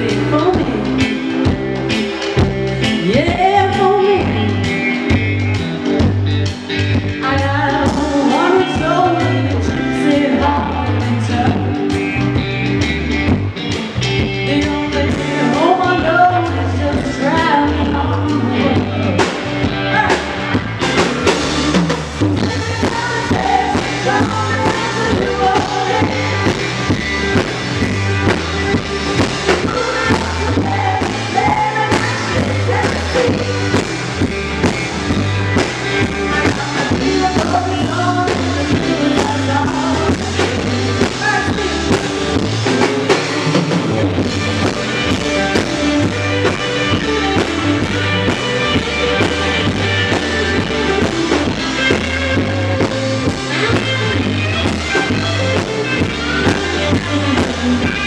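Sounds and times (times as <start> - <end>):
song with drums bass and singing: 0.0 - 58.0.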